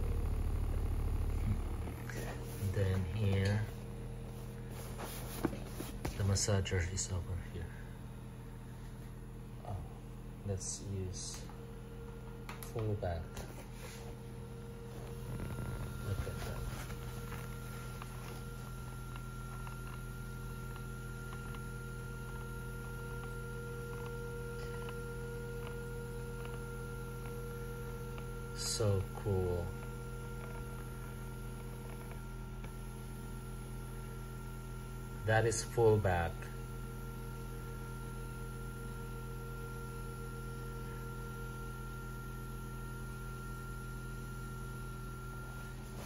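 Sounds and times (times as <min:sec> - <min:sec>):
electric motor hum: 0:00.0 - 0:46.0.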